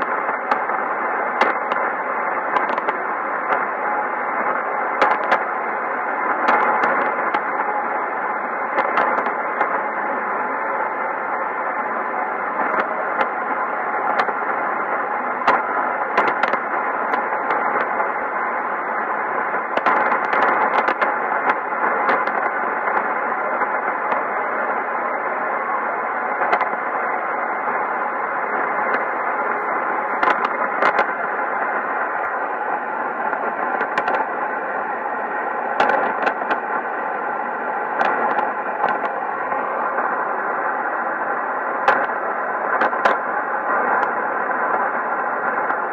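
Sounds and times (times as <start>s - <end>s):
radio static hiss: 0.0s - 45.9s
static crackles: 0.0s - 45.9s
weak radio broadcast: 0.0s - 45.9s.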